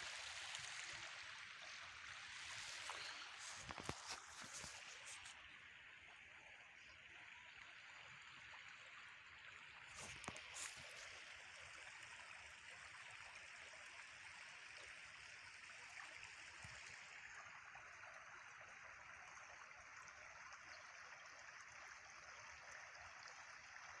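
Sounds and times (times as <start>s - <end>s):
stream water running: 0.0s - 24.0s.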